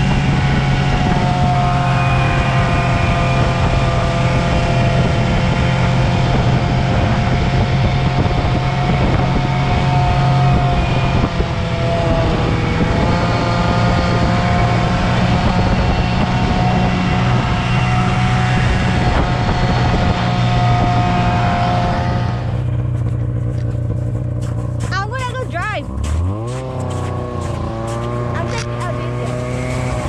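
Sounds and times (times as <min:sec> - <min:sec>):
snowmobile engine running: 0:00.0 - 0:30.0.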